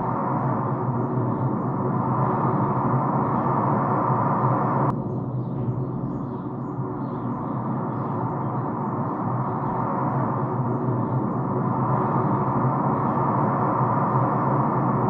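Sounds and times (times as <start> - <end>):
ambient music drone: 0.0 - 15.0.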